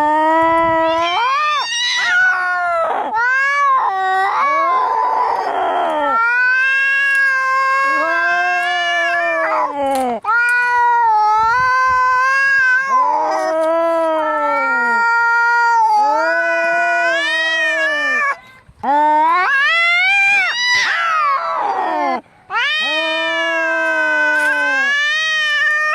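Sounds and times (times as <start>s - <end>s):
cats yowling: 0.3s - 25.9s.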